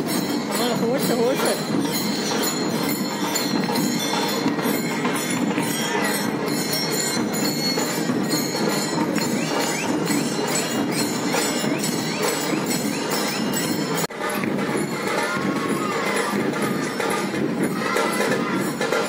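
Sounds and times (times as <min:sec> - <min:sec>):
barrel drums beating: 0:00.0 - 0:19.0
cymbals: 0:00.0 - 0:19.0.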